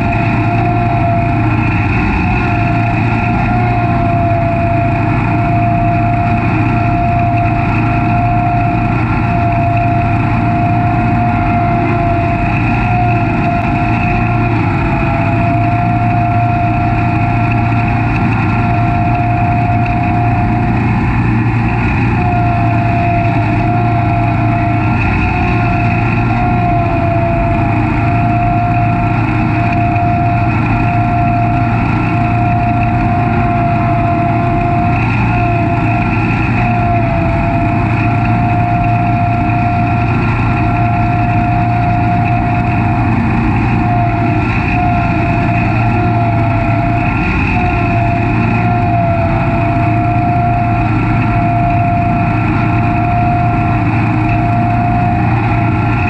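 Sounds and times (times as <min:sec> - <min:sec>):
high whine: 0:00.0 - 0:56.0
mower engine drone: 0:00.0 - 0:56.0.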